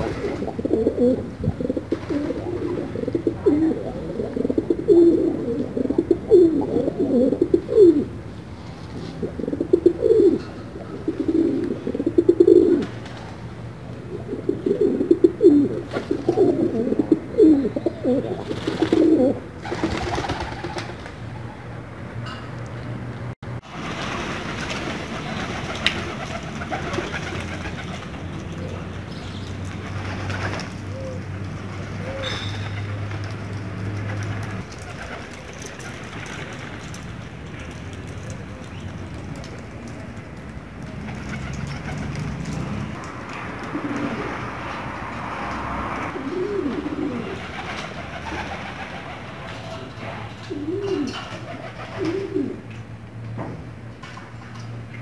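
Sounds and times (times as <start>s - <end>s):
pigeons cooing: 0.0s - 8.3s, 8.9s - 21.5s, 25.0s - 36.2s, 40.8s - 52.8s
steady background noise: 0.0s - 55.0s.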